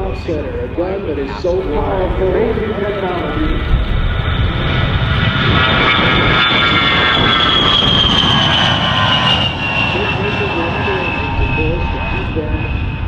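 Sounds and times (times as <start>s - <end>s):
jet taking off: 0.0s - 13.0s.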